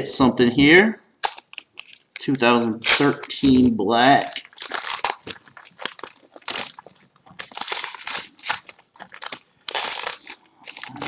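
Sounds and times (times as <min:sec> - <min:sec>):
foil wrapper crinkling and tearing: 0:01.2 - 0:11.0.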